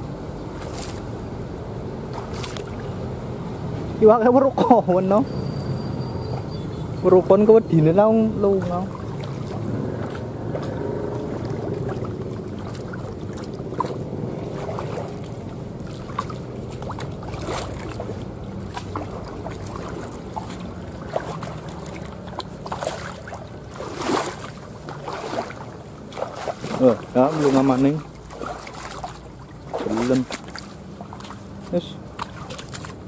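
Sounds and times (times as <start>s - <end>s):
water splashing from wading: 0.0s - 3.9s, 4.7s - 33.0s.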